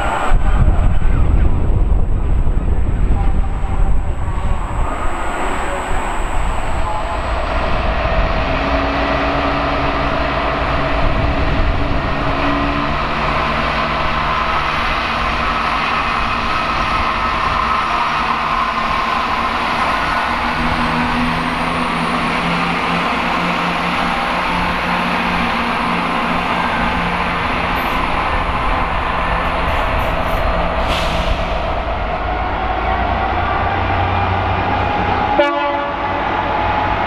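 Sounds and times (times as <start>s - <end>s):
train engine hum: 0.0s - 37.0s.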